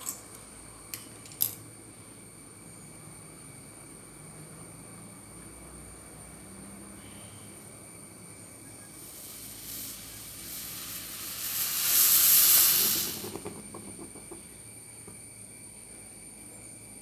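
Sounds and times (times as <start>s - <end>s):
hiss of boiling milk foam: 2.1s - 17.0s.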